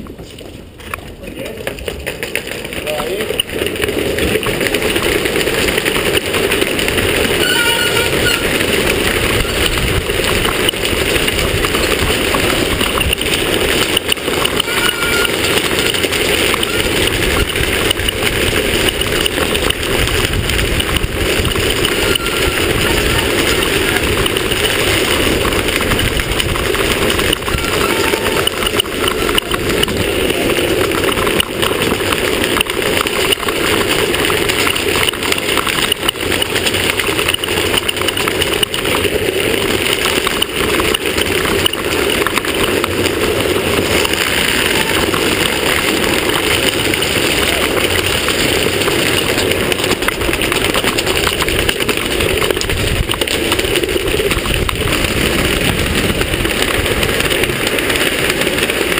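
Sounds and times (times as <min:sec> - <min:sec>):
rushing wind: 0:00.0 - 0:58.9
wheels rumbling on pavement: 0:00.0 - 0:58.9.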